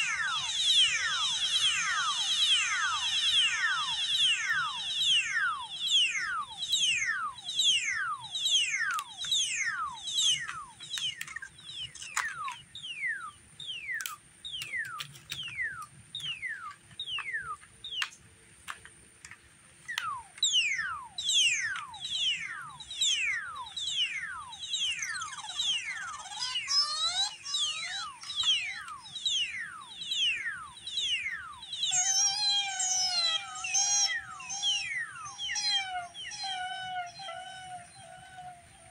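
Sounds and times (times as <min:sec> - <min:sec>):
falling electronic pitch sweeps: 0:00.0 - 0:14.1, 0:20.5 - 0:38.9
faint steady hum: 0:00.0 - 0:38.9.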